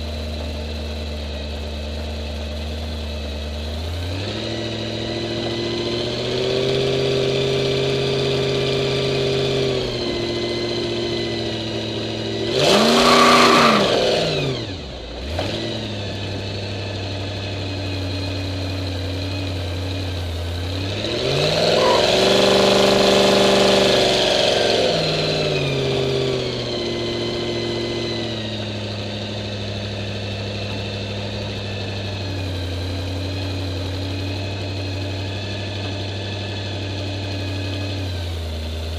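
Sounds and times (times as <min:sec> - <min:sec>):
supercharged engine idling and revving: 0:00.0 - 0:38.9.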